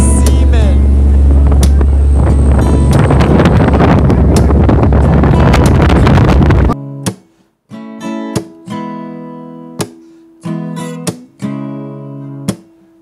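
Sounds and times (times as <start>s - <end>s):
acoustic guitar strummed chords: 0.0s - 13.0s.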